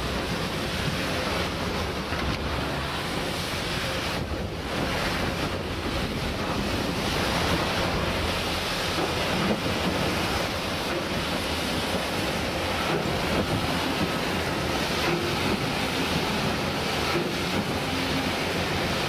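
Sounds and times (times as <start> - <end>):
water jets splashing into channel: 0.0 - 19.0
wind buffeting microphone: 0.0 - 19.0.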